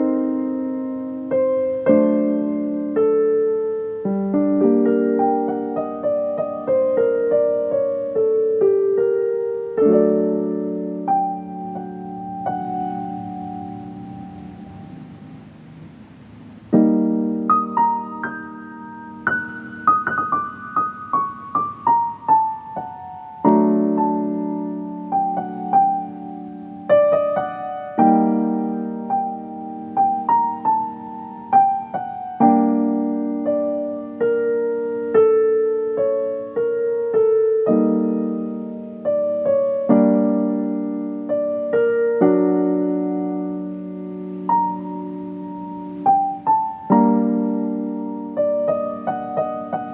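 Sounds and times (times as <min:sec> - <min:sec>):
solo piano music: 0:00.0 - 0:49.9.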